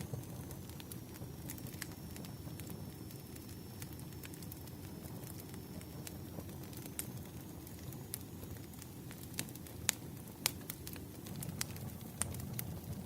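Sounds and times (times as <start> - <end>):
sharp pops of burning logs: 0.0 - 13.0
wood fire crackling: 0.0 - 13.0.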